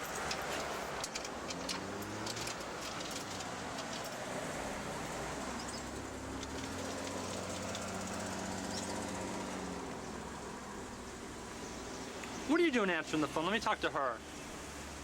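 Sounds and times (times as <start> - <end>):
road traffic noise: 0.0 - 15.0
vehicle engine hum: 0.0 - 15.0.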